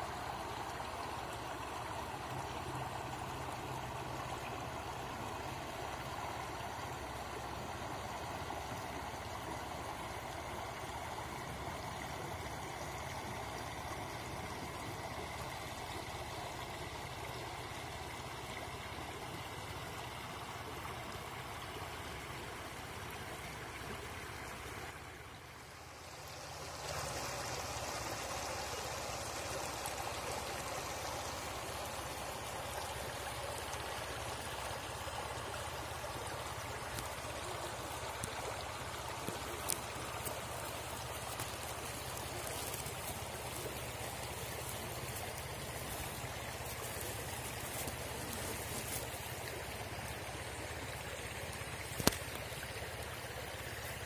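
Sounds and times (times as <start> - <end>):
river water rippling over stones: 0.0 - 54.0.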